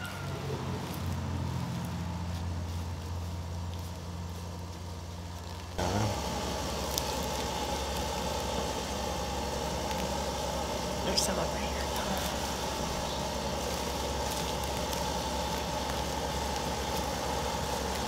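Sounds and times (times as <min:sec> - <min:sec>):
motor engine hum: 0:00.0 - 0:18.0.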